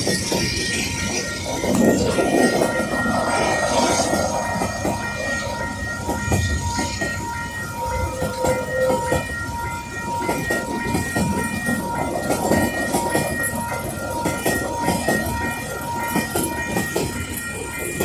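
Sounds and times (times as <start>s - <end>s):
crossing bells ringing: 0.0s - 18.0s
low train rumble: 0.0s - 18.0s
train wheels clicking over rail joints: 0.0s - 18.0s.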